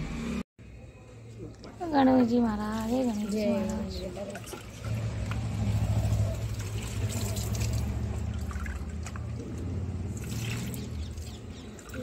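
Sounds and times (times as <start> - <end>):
water sloshing in basin: 2.4 - 12.0.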